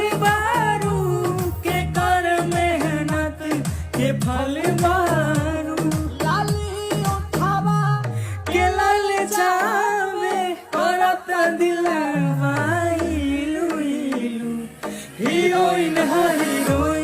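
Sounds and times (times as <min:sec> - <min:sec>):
backing music with gliding bass: 0:00.0 - 0:17.0
person singing: 0:00.0 - 0:17.0.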